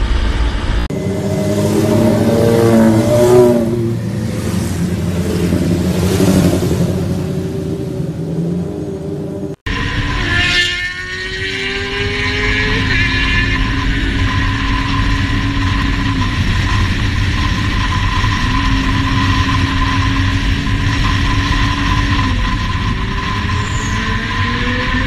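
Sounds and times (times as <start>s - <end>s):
motorcycle engine: 0.0s - 25.0s.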